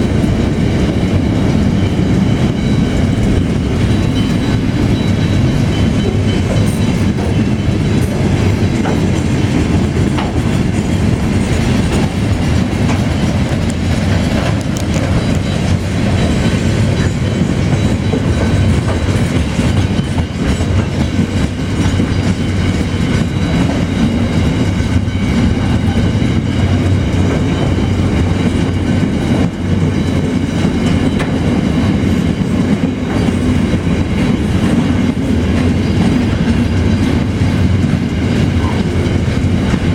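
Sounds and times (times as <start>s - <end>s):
train wheels rumbling on rails: 0.0s - 39.9s
wheels clicking over rail joints: 0.0s - 39.9s.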